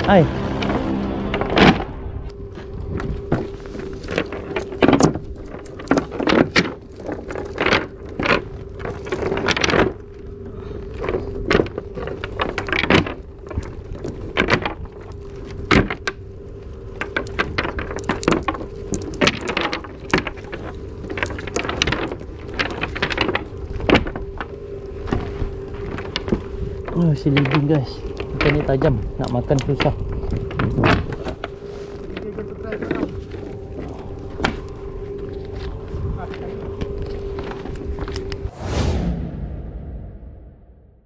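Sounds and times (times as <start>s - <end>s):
steady low hum: 0.0s - 41.0s
net rustling: 2.3s - 38.5s.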